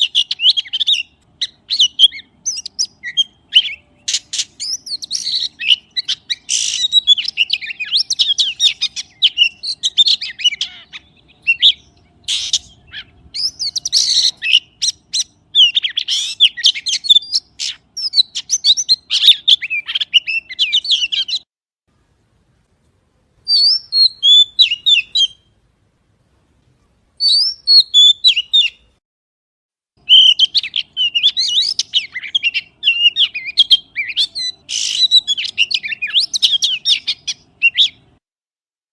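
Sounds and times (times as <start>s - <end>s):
bird singing chirps and whistles: 0.0s - 21.5s, 23.4s - 25.5s, 27.2s - 29.0s, 30.0s - 38.2s.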